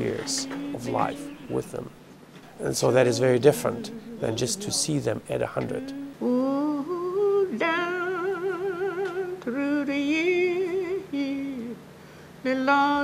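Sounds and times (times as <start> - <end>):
elderly woman singing a hymn: 0.0 - 2.0, 2.6 - 11.8, 12.4 - 13.0.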